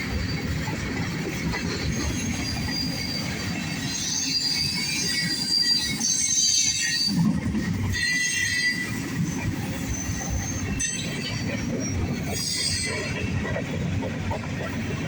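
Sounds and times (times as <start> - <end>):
steel wheels squealing: 0.1 - 13.6.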